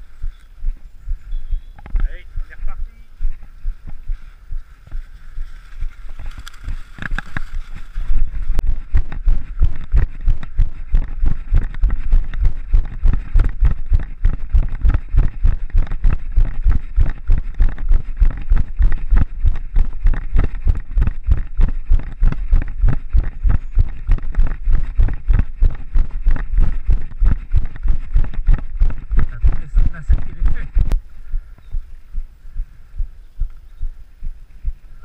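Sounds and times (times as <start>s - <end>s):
running footsteps on dirt trail: 0.0s - 35.0s.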